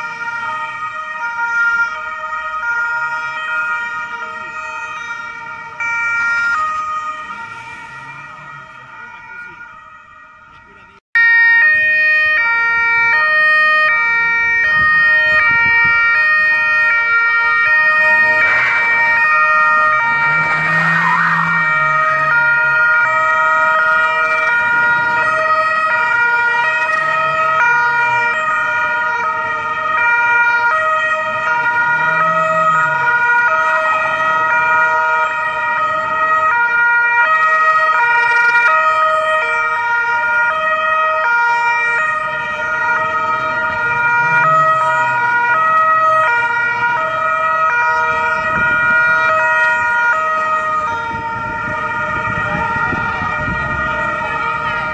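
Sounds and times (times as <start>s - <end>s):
two-tone police sirens: 0.0s - 54.9s.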